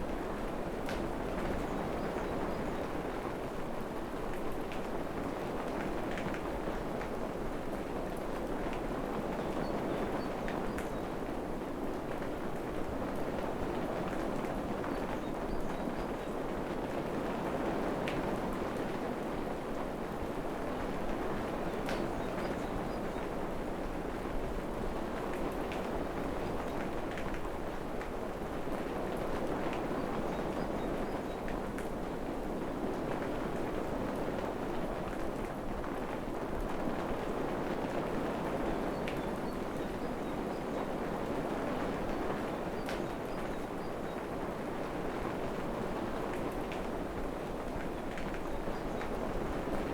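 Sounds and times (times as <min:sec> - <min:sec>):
rain falling in a forest: 0:00.0 - 0:49.9.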